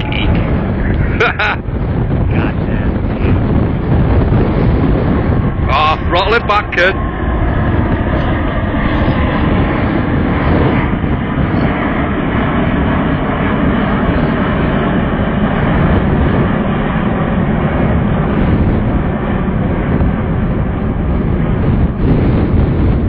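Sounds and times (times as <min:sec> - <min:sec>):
jet engines roaring: 0:00.0 - 0:23.0
wind on microphone: 0:00.0 - 0:23.0.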